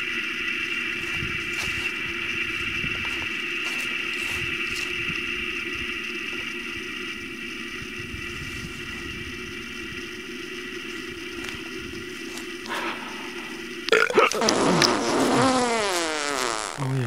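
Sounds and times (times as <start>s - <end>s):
eerie low drone: 0.0s - 15.7s.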